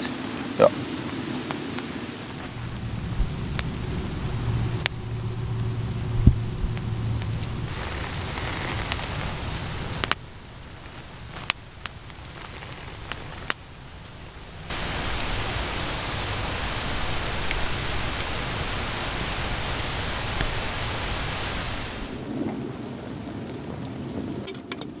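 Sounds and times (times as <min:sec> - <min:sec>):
wood fire crackling: 0:00.0 - 0:23.6
steady hiss: 0:00.0 - 0:24.5.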